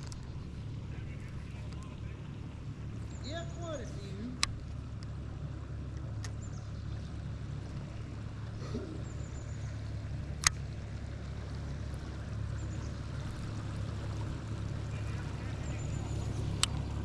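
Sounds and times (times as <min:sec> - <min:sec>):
faint trickling water: 0:00.0 - 0:17.0.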